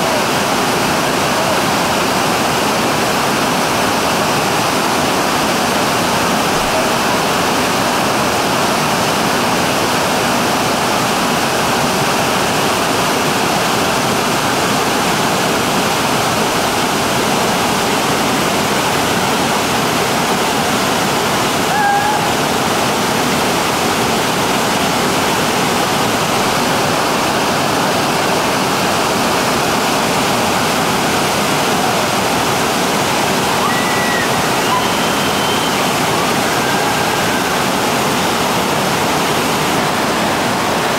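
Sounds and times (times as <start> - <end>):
rushing whitewater rapid: 0.0 - 40.9.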